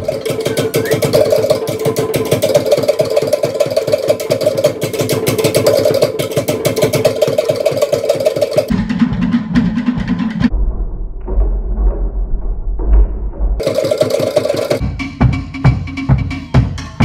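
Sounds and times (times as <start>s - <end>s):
rapid slit drum beat: 0.0s - 10.5s, 13.6s - 17.0s.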